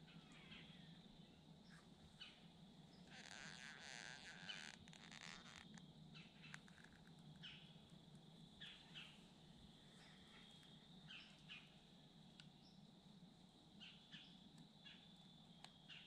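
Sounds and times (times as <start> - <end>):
faint bird chirps: 0.0 - 7.8, 8.6 - 11.8, 13.8 - 16.0.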